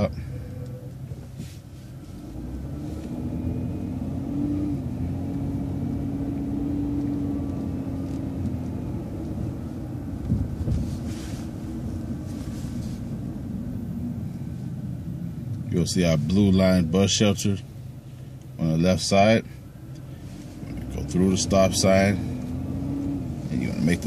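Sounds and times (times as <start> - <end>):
bus drivetrain whine: 0.0 - 24.0
bus engine rumble: 0.0 - 24.0.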